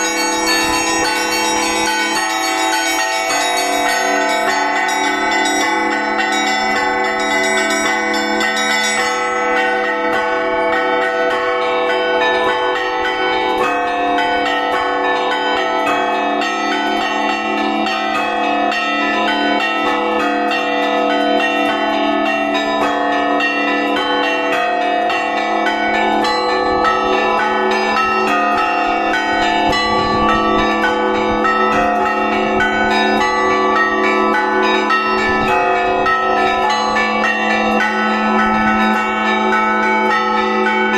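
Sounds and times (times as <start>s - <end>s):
high church bells striking quickly: 0.0s - 40.9s
low church bells: 0.0s - 40.9s.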